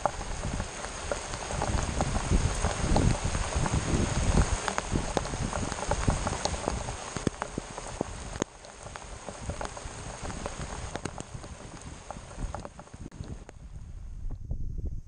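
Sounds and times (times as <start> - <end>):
heavy rain pouring on water: 0.0 - 13.8
raindrops ticking near microphone: 0.0 - 14.4.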